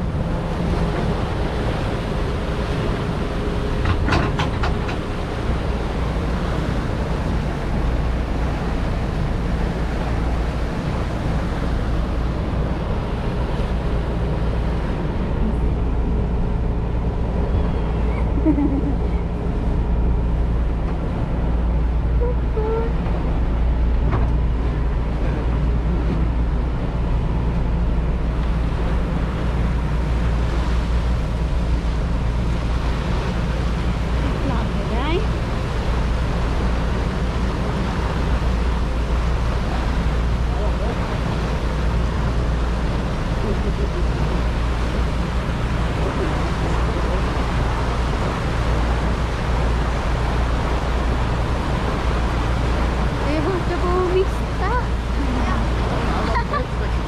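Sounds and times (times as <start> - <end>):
boat engine droning: 0.0 - 57.0
water rushing along hull: 0.0 - 57.0.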